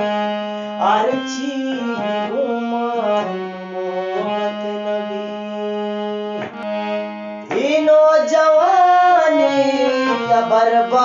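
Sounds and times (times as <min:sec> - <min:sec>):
person singing: 0:00.0 - 0:06.4, 0:07.4 - 0:11.0
harmonium playing held notes: 0:00.0 - 0:11.0.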